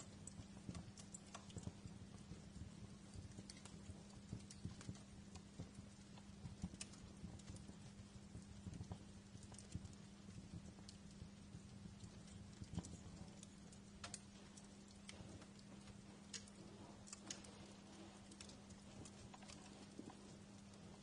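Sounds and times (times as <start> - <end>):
faint steady hum: 0.0 - 21.0
wood fire crackling: 0.0 - 21.0.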